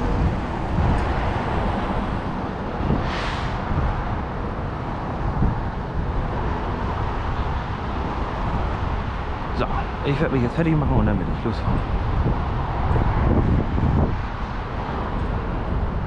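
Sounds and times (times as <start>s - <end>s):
truck engines running: 0.0s - 16.0s
wind rumbling on microphone: 0.0s - 16.0s.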